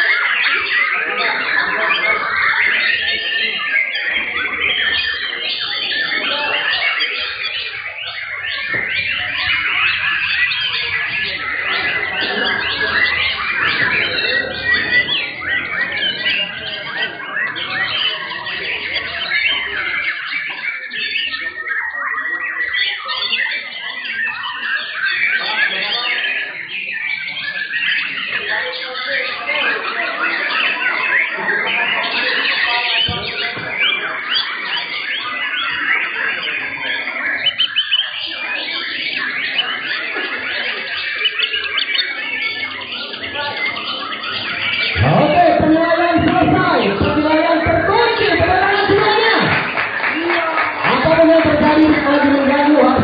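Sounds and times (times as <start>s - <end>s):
chorus of songbirds: 0.0s - 53.0s
many birds singing: 0.0s - 53.0s.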